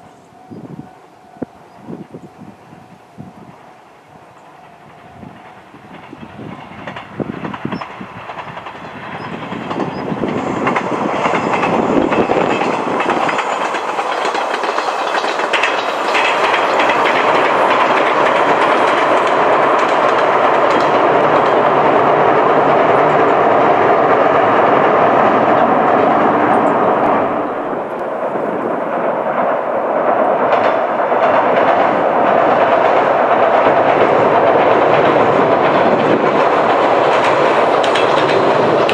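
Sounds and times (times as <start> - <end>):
electric train passing on bridge: 0.0 - 38.9
wheels clattering over rail joints: 4.3 - 38.9.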